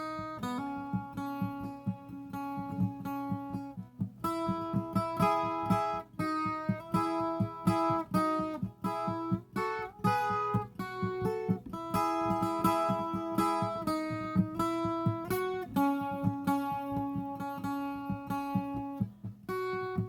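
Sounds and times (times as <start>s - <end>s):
plucked string instrument melody: 0.0s - 20.0s.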